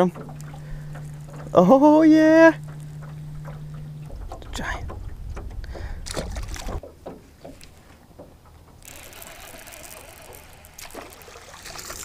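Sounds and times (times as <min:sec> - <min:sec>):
fishing reel ticking whir: 0:00.0 - 0:06.8, 0:08.7 - 0:12.0.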